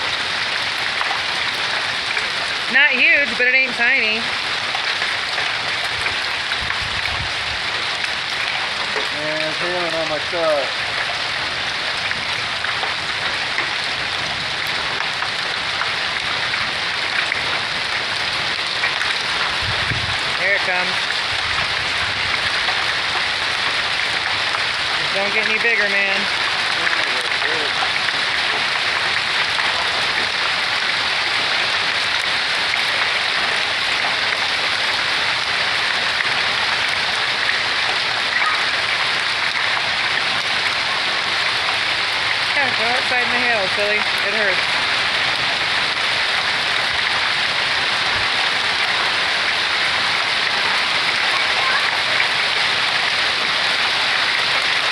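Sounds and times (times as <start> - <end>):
hail and rain falling: 0.0 - 54.9.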